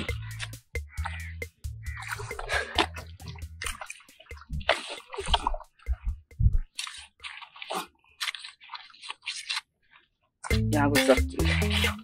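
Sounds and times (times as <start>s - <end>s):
wet mud squelching: 0.0s - 12.0s.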